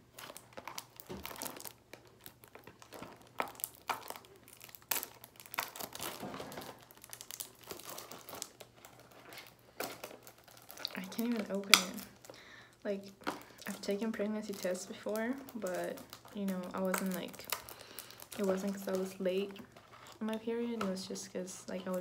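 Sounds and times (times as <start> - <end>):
cardboard and wrapper crinkling: 0.0 - 22.0
sharp packaging snaps: 0.1 - 20.2.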